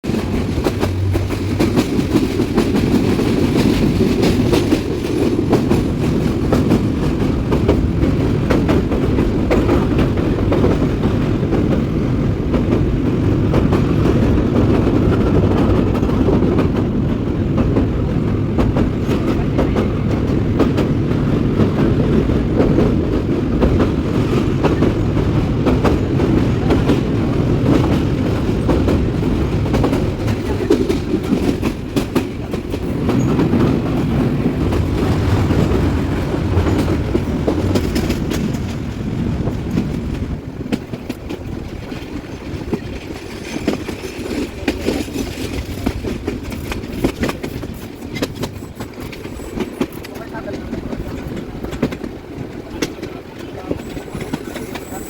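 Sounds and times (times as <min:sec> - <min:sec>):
train rumbling: 0:00.0 - 0:55.0
train wheels clattering over rails: 0:00.0 - 0:55.0.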